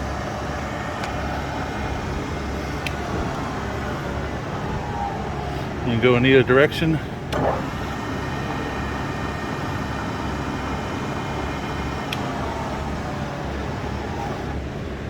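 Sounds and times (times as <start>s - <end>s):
mill motor hum with gear whine: 0.0s - 15.0s.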